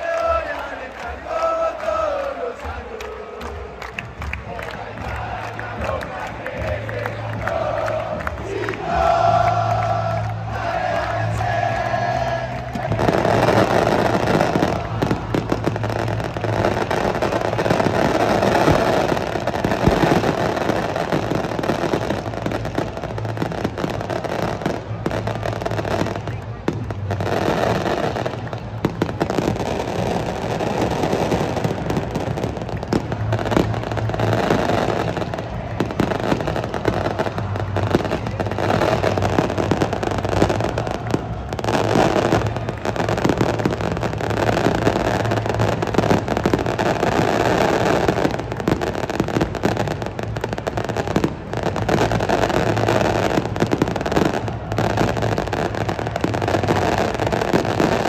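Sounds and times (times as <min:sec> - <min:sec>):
fireworks popping and banging: 0:00.0 - 0:10.3, 0:12.5 - 0:58.0
stadium crowd noise: 0:00.0 - 0:58.0.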